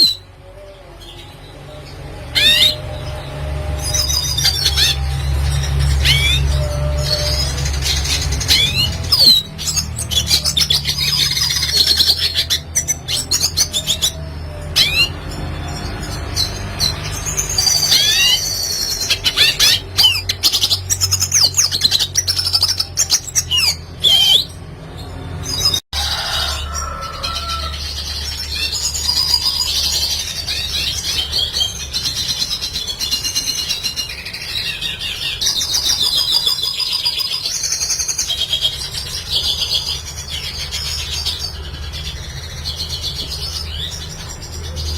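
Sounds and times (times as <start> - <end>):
bird twittering song: 0.0 - 44.9.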